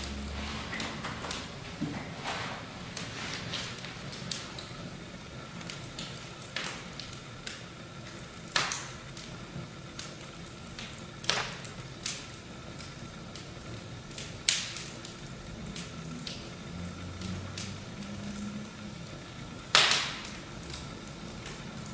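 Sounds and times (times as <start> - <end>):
fire crackling and popping: 0.0 - 21.9
fire hissing: 0.0 - 21.9.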